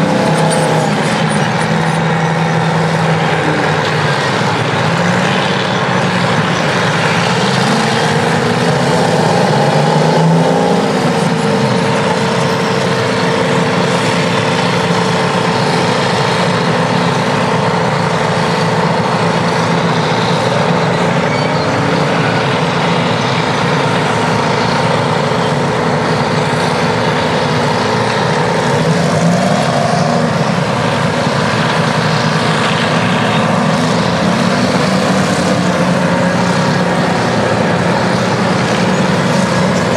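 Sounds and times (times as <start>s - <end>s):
diesel engines revving under load: 0.0s - 39.9s
steady machine whine: 0.0s - 39.9s.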